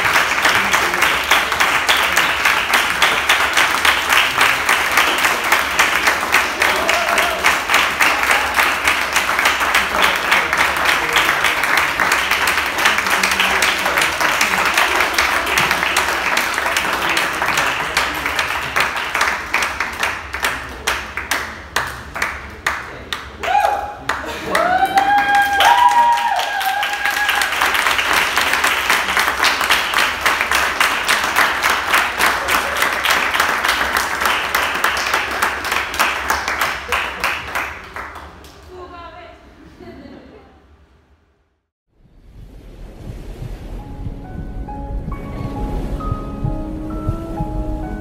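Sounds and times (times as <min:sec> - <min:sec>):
audience applauding: 0:00.0 - 0:38.7.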